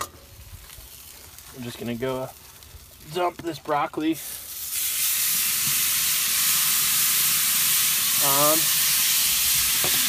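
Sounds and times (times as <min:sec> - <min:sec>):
broccoli sizzling on grill: 0:00.0 - 0:10.0.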